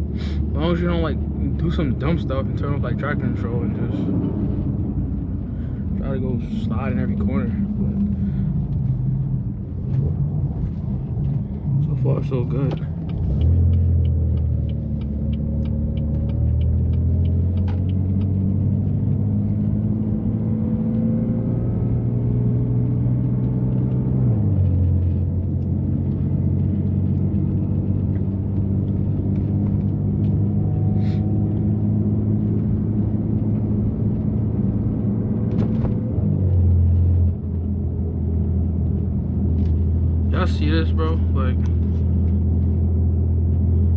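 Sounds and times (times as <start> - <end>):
car engine droning at low revs: 0.0 - 43.9.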